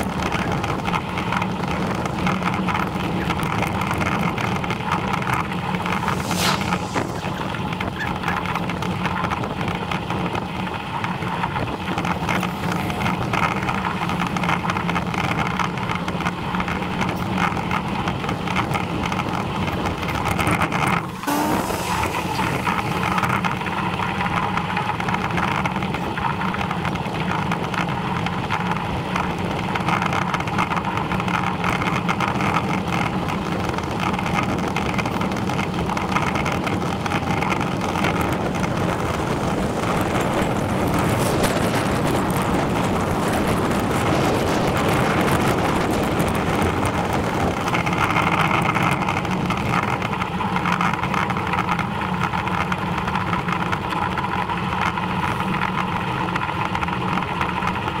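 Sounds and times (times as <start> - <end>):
bicycle tyres rumbling on tarmac: 0.0 - 58.0
wind rushing over microphone: 0.0 - 58.0.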